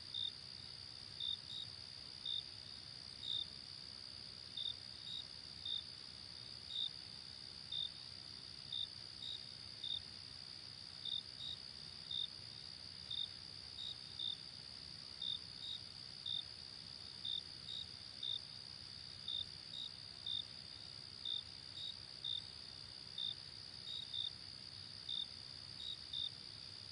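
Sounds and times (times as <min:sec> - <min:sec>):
cricket chirps: 0:00.0 - 0:26.9.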